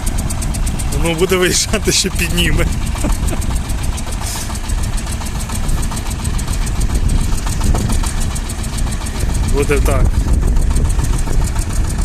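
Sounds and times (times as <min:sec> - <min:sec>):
tractor diesel engine clattering: 0:00.0 - 0:12.0.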